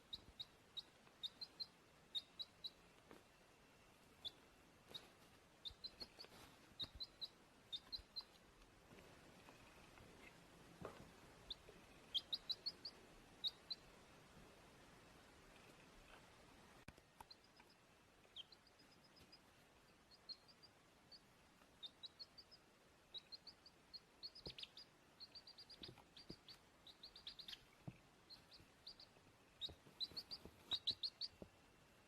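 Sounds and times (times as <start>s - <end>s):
baby chick peeping: 0.0s - 32.0s.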